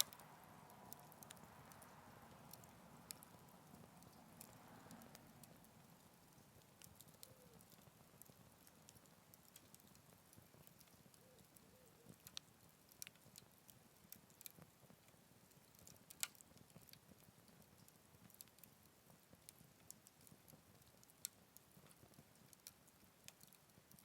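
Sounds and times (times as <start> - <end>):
small wood fire crackling: 0.0 - 24.0.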